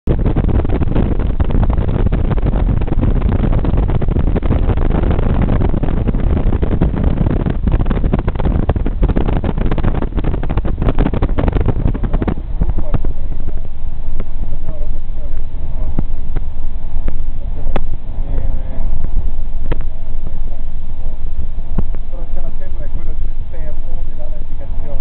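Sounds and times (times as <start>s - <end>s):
road and engine noise: 0.0s - 25.0s
wind buffeting microphone: 0.0s - 25.0s.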